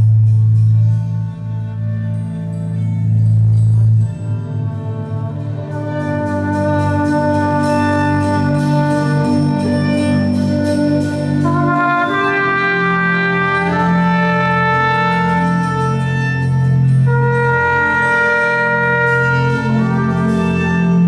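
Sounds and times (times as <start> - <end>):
low bass line: 0.0 - 21.0
trumpet: 0.0 - 21.0
violins: 0.0 - 21.0.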